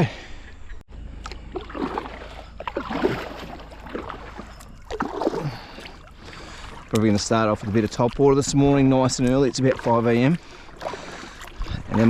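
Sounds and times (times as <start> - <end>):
water splashing and dripping: 1.2 - 12.0.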